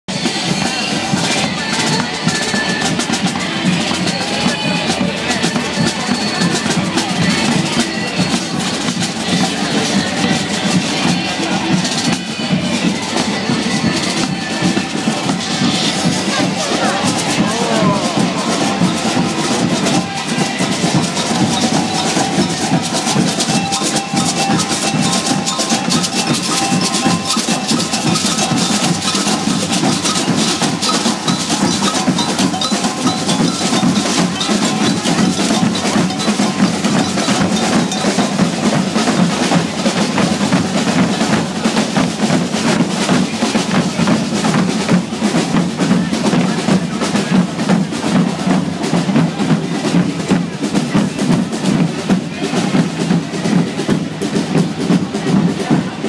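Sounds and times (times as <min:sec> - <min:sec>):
marching drummers playing: 0:00.1 - 0:56.0.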